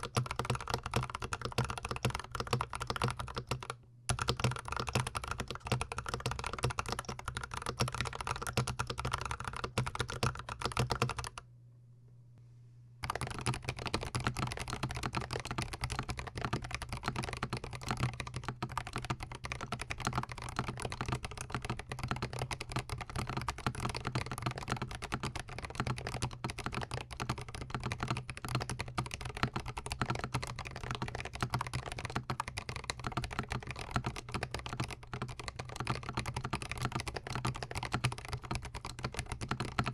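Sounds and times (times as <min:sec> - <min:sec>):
fast typing on mechanical keyboard: 0:00.0 - 0:11.4, 0:13.0 - 0:39.9.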